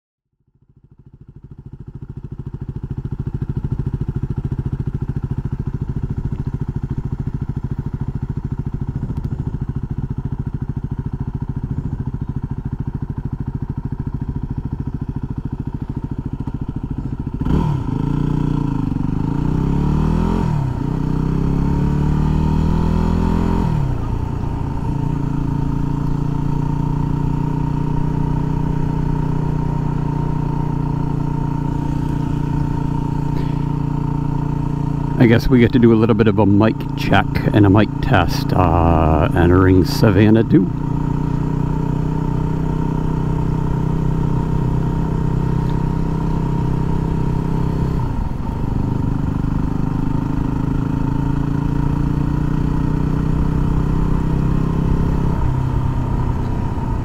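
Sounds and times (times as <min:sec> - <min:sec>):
motorcycle engine: 0:00.4 - 0:57.0.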